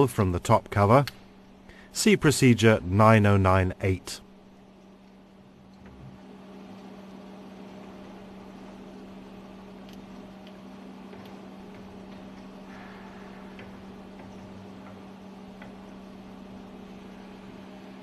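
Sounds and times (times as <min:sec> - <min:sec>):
engine room machinery hum: 0:00.0 - 0:18.0.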